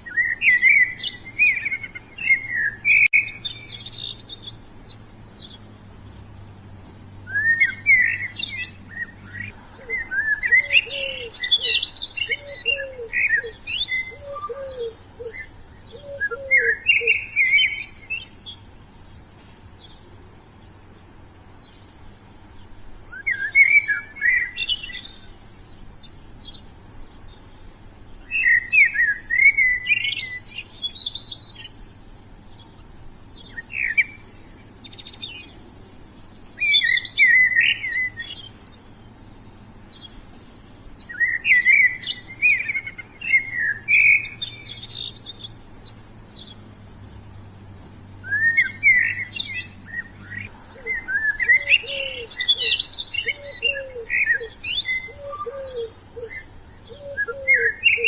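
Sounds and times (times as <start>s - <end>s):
lower repeated bird call: 0.0s - 21.0s, 21.6s - 47.2s, 47.8s - 58.0s
songbirds chirping and singing: 0.0s - 58.0s.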